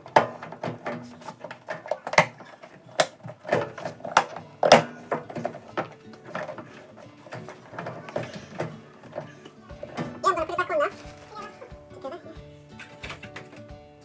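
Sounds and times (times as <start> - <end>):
clicks and knocks of parts handled: 0.0 - 10.2, 12.7 - 13.7.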